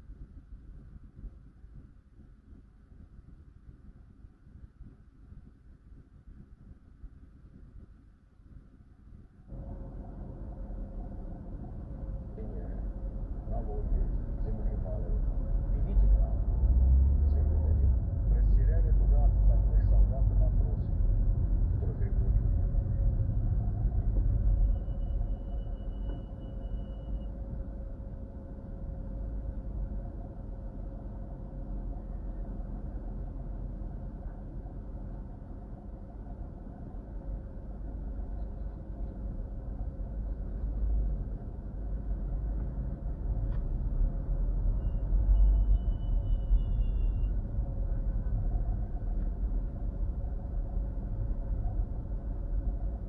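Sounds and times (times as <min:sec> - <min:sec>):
car engine and road rumble: 0:09.5 - 0:53.0.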